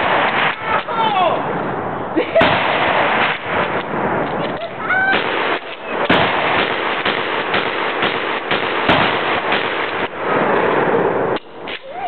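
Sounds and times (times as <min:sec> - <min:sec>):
loud gunshots: 0:00.0 - 0:01.2, 0:02.4 - 0:04.2, 0:05.0 - 0:11.8.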